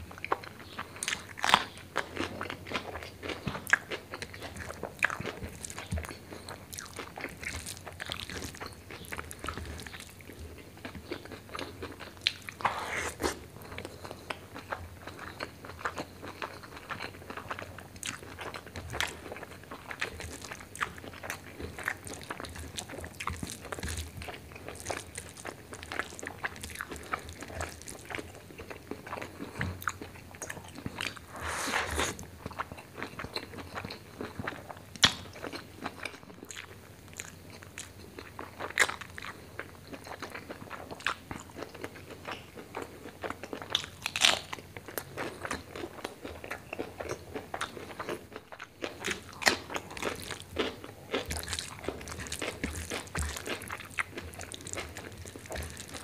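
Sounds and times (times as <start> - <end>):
chewing with mouth clicks: 0.0 - 56.0.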